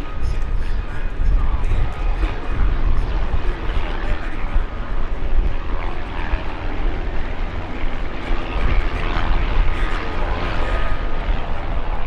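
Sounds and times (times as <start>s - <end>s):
helicopter rotor and turbine noise: 0.0s - 12.0s.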